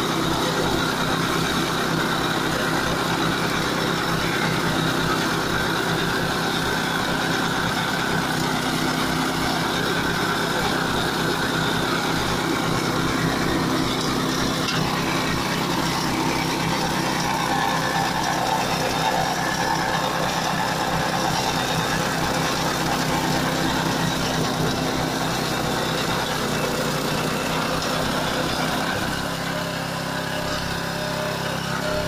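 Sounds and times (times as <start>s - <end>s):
flail rotor mulching grass: 0.0s - 32.0s
petrol engine running: 0.0s - 32.0s.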